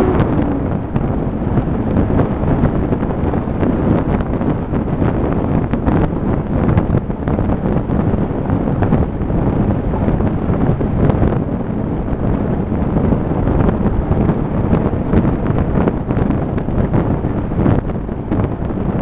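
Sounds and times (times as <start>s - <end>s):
vehicle rumbling on dirt road: 0.0s - 19.0s.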